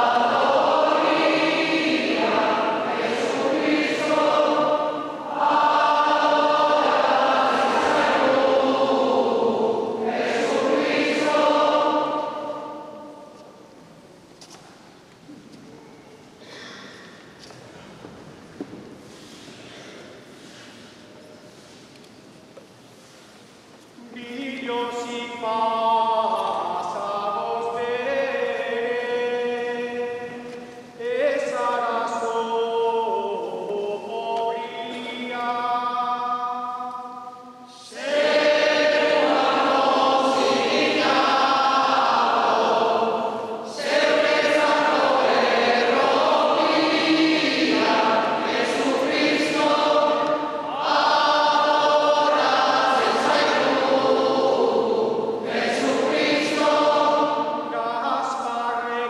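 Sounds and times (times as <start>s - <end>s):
group singing a carol: 0.0s - 13.8s, 24.0s - 59.0s.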